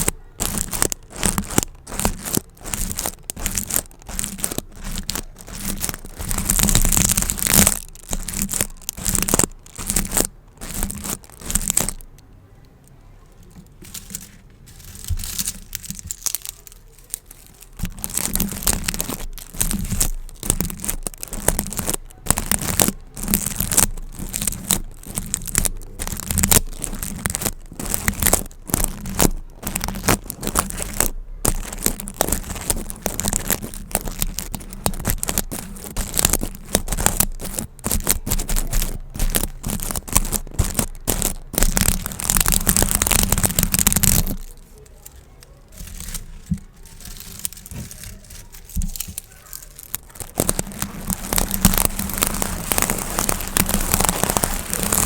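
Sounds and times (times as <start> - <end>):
gift bows crinkling: 0.0 - 55.0.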